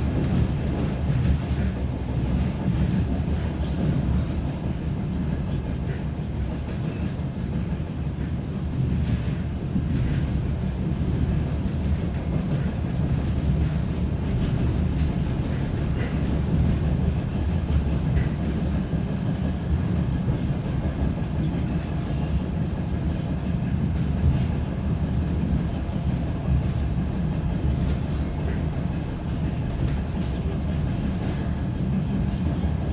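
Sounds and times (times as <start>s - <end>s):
rail noise: 0.0s - 32.9s
train engine drone: 0.0s - 32.9s.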